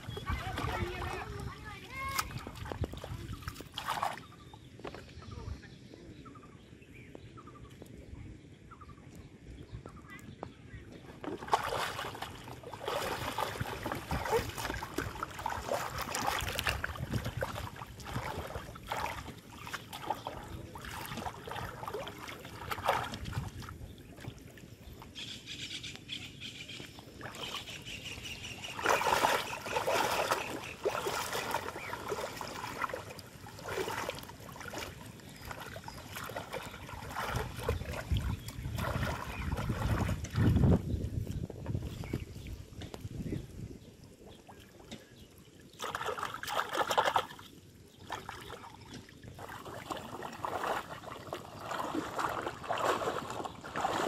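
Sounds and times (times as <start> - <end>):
water splashing and trickling: 0.0 - 5.6, 9.2 - 25.2, 26.7 - 54.0.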